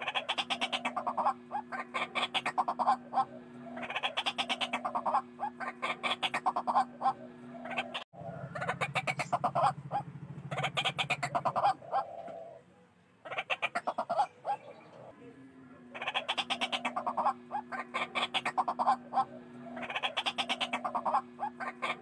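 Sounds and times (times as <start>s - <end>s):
waterhens croaking calls: 0.0s - 15.2s, 15.8s - 22.0s.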